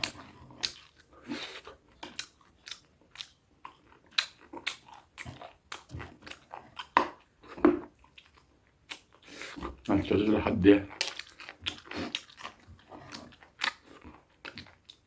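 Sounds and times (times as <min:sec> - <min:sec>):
crunchy chewing of food: 0:00.0 - 0:15.0.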